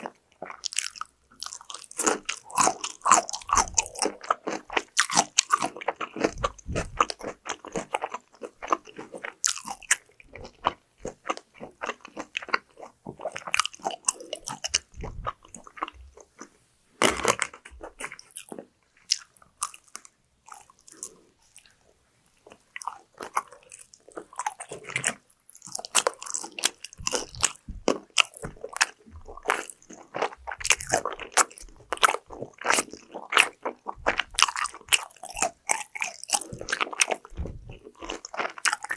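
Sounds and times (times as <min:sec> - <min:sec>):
chewing: 0:00.0 - 0:38.9
crunching bites of fried food: 0:00.4 - 0:21.7, 0:22.5 - 0:38.9.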